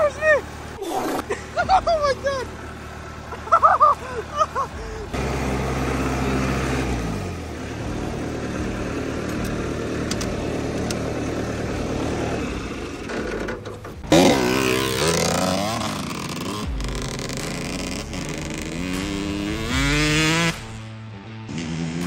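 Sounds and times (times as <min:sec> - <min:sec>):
engine running and revving: 0:00.0 - 0:22.0.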